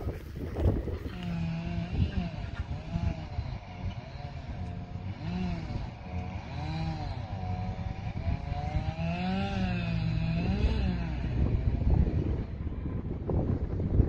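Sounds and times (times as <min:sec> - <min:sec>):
engine revving: 0:00.0 - 0:14.0
wind rumble on microphone: 0:00.0 - 0:14.0.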